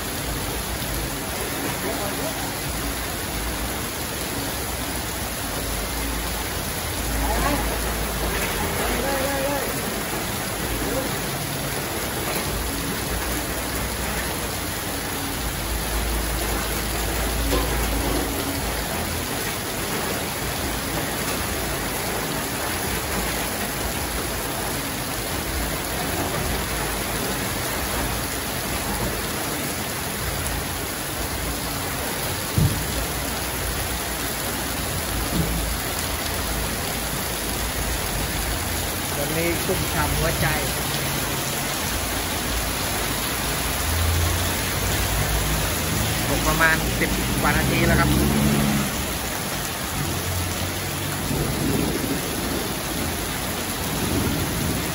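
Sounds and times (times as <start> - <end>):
heavy rain hitting the street: 0.0 - 54.9
water running off a roof: 0.0 - 54.9.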